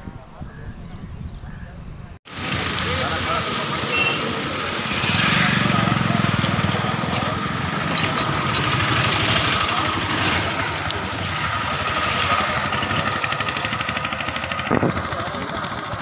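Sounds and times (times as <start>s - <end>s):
motorcycle engine idling: 2.4s - 16.0s.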